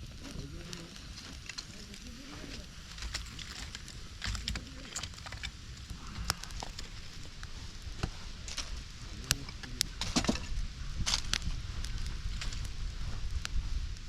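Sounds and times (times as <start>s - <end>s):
wind rumble on microphone: 0.0s - 14.0s
wood fire crackling: 0.0s - 14.0s.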